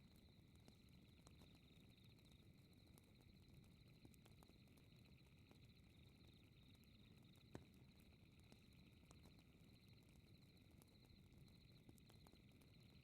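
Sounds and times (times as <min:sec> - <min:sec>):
faint fireplace crackle: 0:00.0 - 0:13.0.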